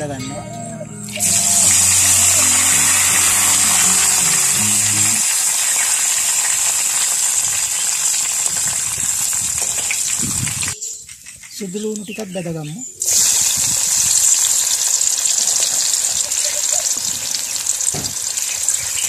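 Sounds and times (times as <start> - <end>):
leaves sizzling in hot oil: 1.2 - 10.8, 13.0 - 19.0.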